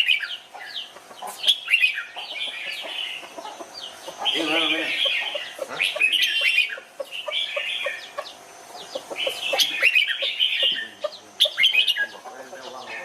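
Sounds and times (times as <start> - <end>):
bulbuls singing: 0.0 - 13.0.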